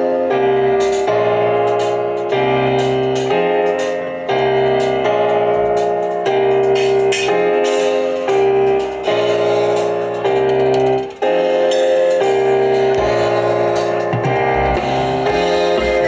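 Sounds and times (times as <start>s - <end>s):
held keyboard chords: 0.0s - 16.0s.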